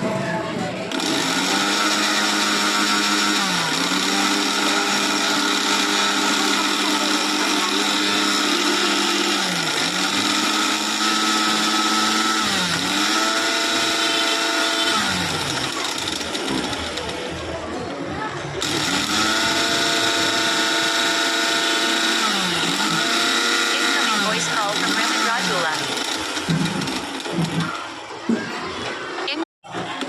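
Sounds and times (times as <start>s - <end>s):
mixer grinder motor whining: 0.9s - 17.5s, 18.6s - 28.0s.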